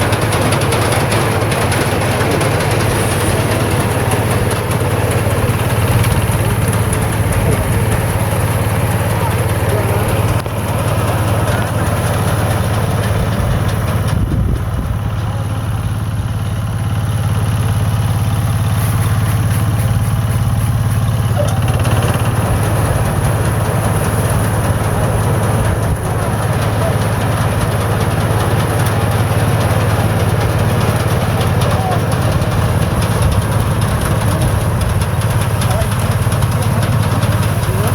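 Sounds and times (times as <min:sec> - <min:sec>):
combine harvester engine humming: 0:00.0 - 0:37.9.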